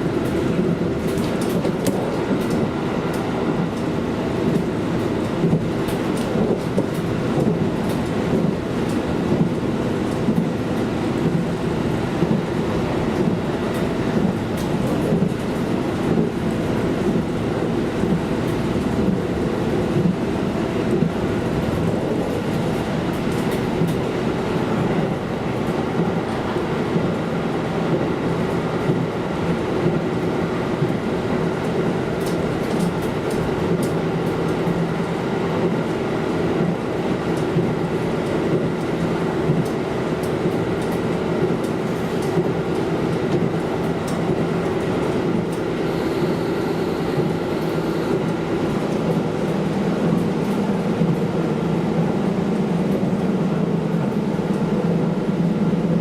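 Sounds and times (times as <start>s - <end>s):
diesel railcar engine drone: 0.0s - 56.0s
wheels rolling on rail: 0.0s - 56.0s.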